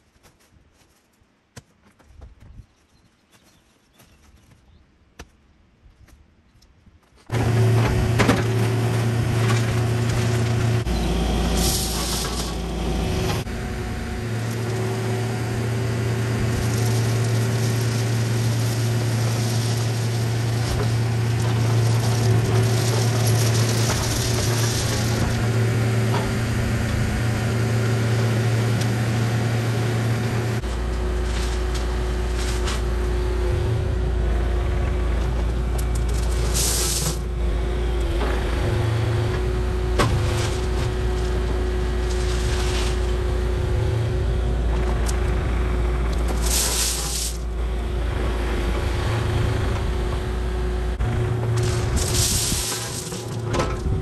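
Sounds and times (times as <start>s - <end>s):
engine running steadily: 7.3s - 54.0s.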